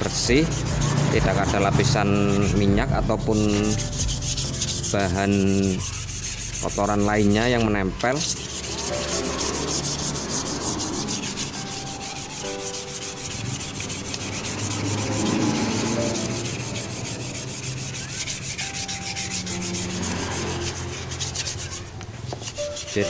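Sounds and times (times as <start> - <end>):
wet sandpaper rubbing on metal: 0.0 - 23.0.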